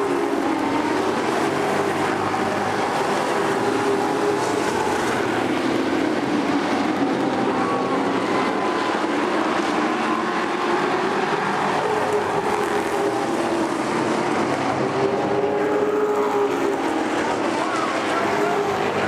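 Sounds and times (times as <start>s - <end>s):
race truck engines at speed: 0.0s - 19.0s.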